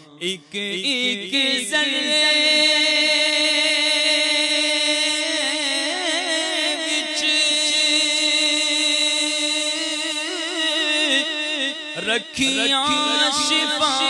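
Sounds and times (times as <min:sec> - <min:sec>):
man singing unaccompanied: 0:00.0 - 0:14.0.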